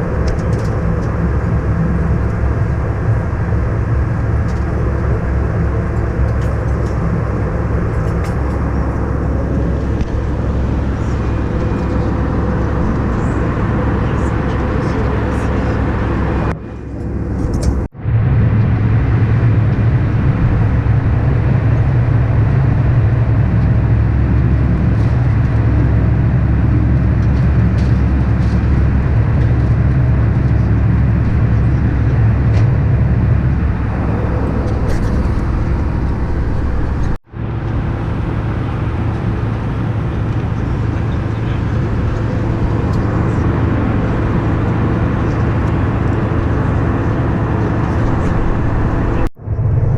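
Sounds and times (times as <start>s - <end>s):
airliner cabin engine drone: 0.0s - 49.9s.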